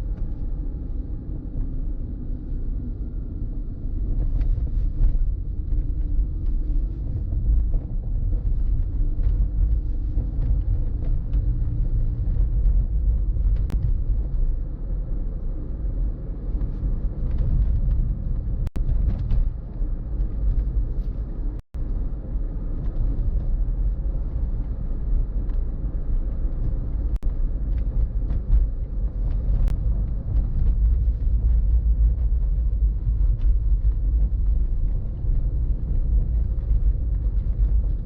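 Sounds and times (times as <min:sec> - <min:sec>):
car driving rumble: 0:00.0 - 0:38.0.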